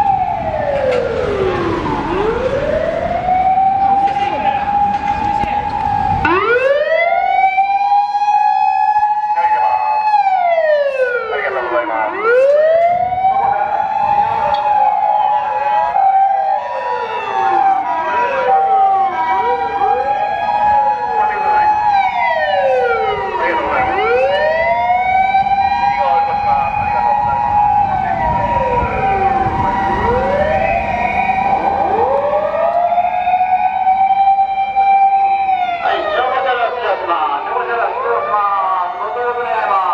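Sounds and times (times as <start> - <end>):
fire truck siren wailing: 0.0 - 39.9.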